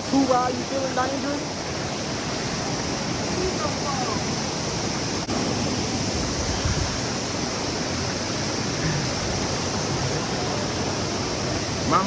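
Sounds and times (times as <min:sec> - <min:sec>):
cascading water rushing: 0:00.0 - 0:12.0.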